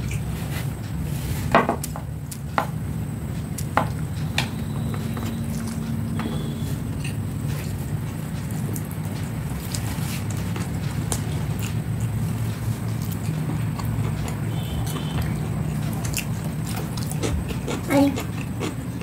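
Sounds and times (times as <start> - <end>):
steady low hum: 0.0 - 19.0
person chewing food: 3.4 - 19.0.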